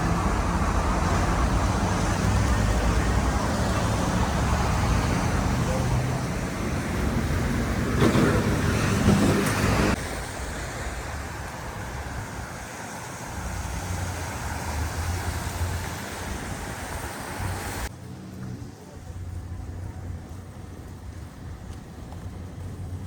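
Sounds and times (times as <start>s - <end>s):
low traffic rumble: 0.0s - 23.0s
vehicles passing: 0.0s - 23.0s.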